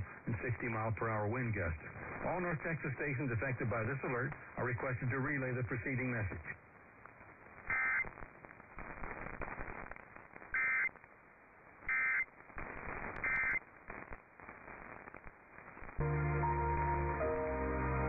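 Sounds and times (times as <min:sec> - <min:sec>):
radio hiss: 0:00.0 - 0:16.0.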